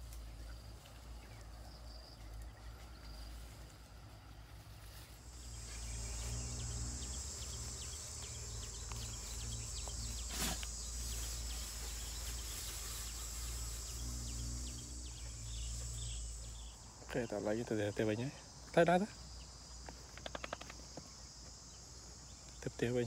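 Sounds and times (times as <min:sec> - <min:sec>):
grass rustling against microphone: 0:00.0 - 0:23.0
insects buzzing: 0:00.0 - 0:23.0.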